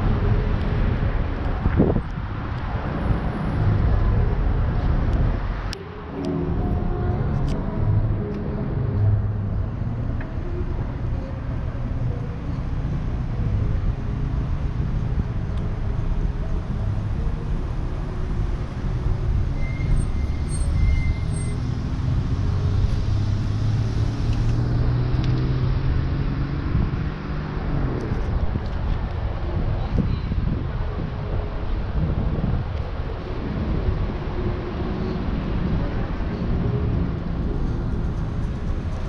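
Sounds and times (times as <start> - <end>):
traffic engine rumble: 0.0 - 39.0.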